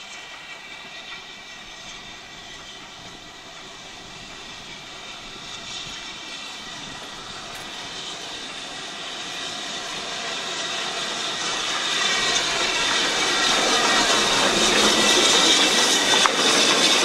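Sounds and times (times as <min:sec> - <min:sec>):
steam train running: 0:00.0 - 0:17.0.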